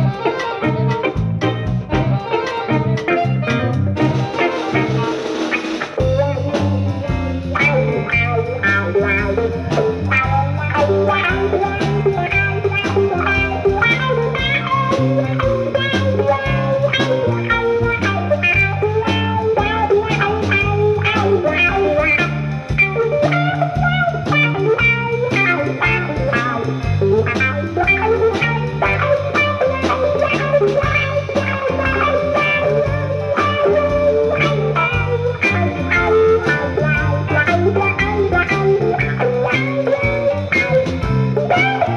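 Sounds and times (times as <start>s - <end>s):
bass guitar: 0.0s - 41.9s
drums: 0.0s - 41.9s
guitar: 0.0s - 41.9s.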